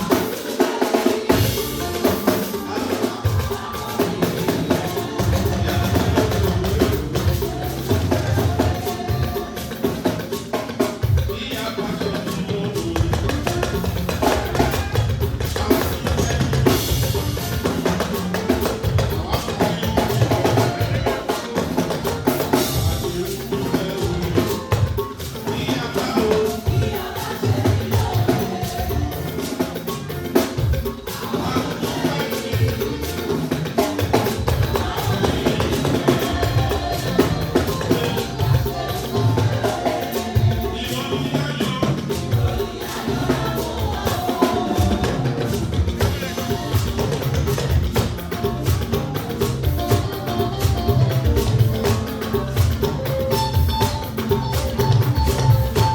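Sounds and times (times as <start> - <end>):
band music: 0.0 - 55.9
drum kit groove: 0.0 - 55.9.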